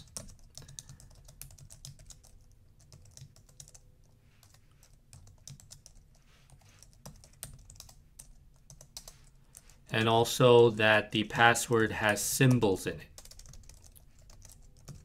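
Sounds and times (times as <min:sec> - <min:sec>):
keyboard typing: 0:00.0 - 0:09.8, 0:12.0 - 0:15.0.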